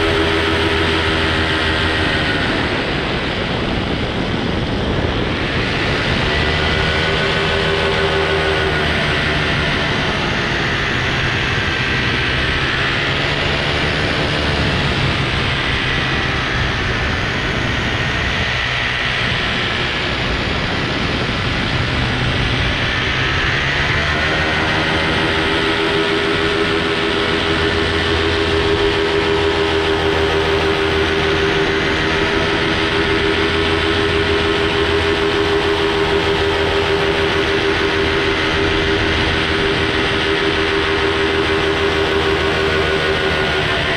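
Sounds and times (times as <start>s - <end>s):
small aircraft engine droning: 0.0s - 43.9s.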